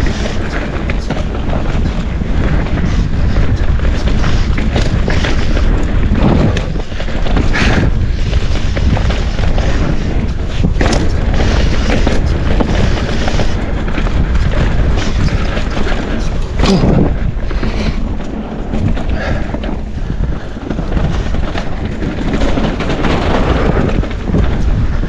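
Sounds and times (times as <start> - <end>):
bike rattling: 0.0 - 25.0
bike tyres rolling on dirt: 0.0 - 25.0
wind buffeting microphone: 0.0 - 25.0.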